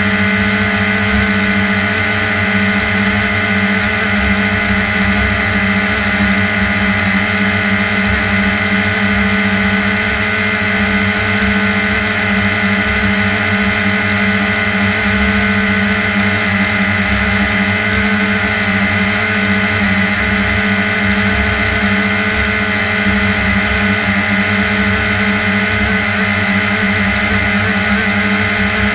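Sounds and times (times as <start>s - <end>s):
drone propellers humming: 0.0s - 28.9s.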